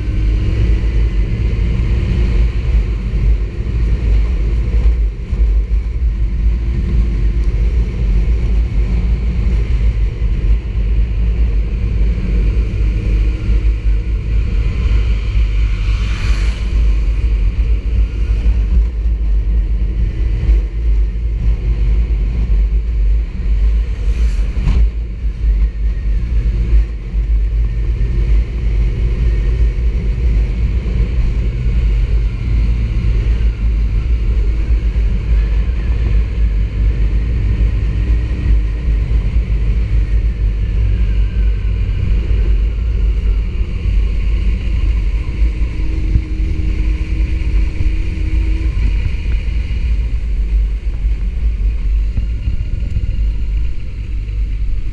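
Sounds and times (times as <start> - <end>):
motorcycle engine drone: 0.0 - 54.9
wind rush on microphone: 0.0 - 54.9.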